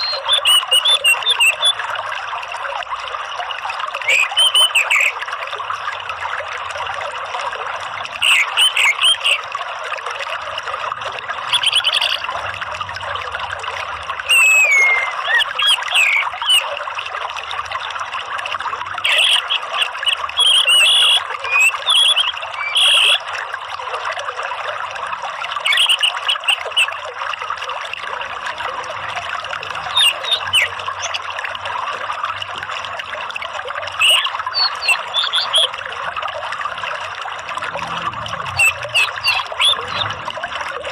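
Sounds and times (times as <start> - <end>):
trickle of running water: 0.0 - 40.9.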